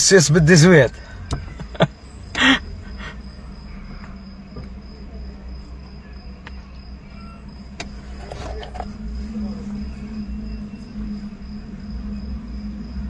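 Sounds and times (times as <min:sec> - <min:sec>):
car cabin hum: 0:00.0 - 0:13.0
high-pitched whine: 0:00.0 - 0:13.0.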